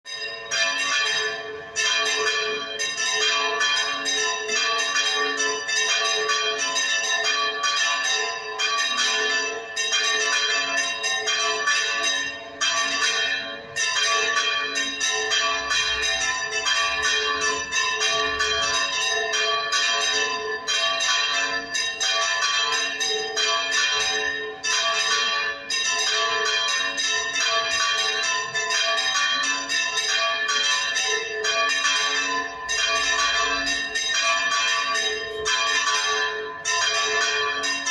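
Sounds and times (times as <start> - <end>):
church bells pealing: 0.1 - 37.9.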